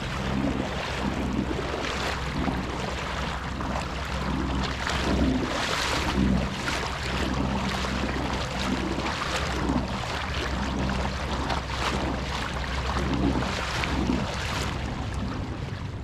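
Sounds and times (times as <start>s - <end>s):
water lapping against kayak hull: 0.0s - 16.0s.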